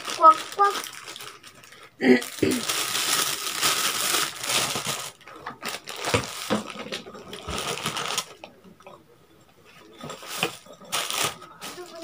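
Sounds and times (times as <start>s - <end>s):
plastic packaging crinkling: 0.0s - 8.5s, 10.0s - 12.0s.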